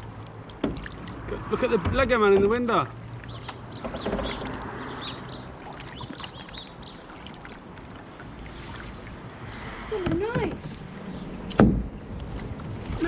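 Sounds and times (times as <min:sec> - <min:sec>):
water dripping and splashing: 0:00.0 - 0:13.0.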